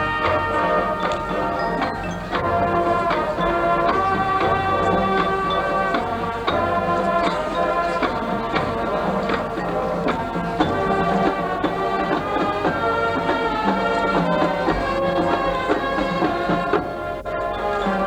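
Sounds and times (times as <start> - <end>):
drum strikes: 0.0 - 17.0
brass chords: 0.0 - 18.0.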